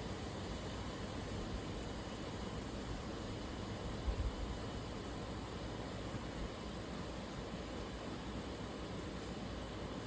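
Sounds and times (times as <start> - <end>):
outdoor hiss: 0.0 - 10.0.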